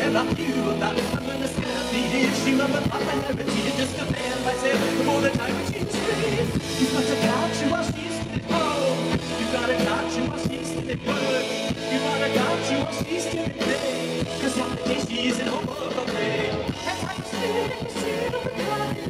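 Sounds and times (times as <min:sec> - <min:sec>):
live rock band playing: 0:00.0 - 0:19.0
man singing into microphone: 0:00.0 - 0:19.0.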